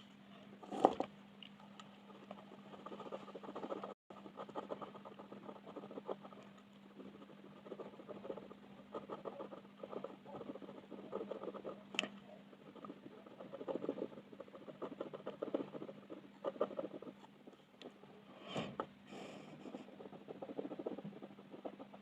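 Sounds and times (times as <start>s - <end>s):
pencil scratching on paper: 2.0s - 17.7s, 18.6s - 22.0s.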